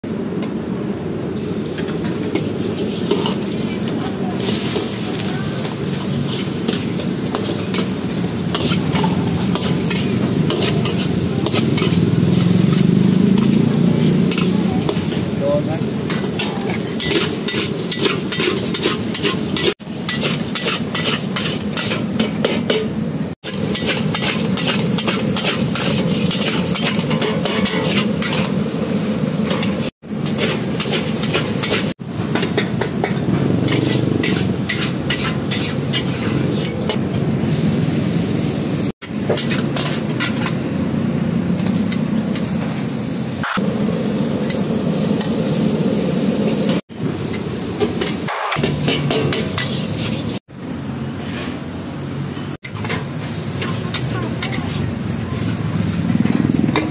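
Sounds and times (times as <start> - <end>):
noodles sizzling: 1.0 - 50.4
metal utensils scraping a wok: 1.7 - 38.4, 39.0 - 40.7, 46.5 - 50.4, 51.2 - 51.7, 52.4 - 56.9.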